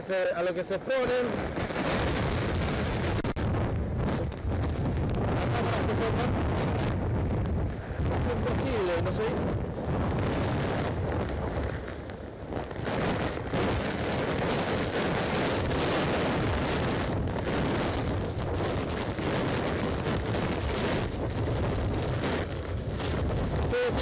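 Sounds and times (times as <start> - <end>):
wind gusts battering microphone: 0.0 - 24.0
torrential rain: 1.0 - 24.0.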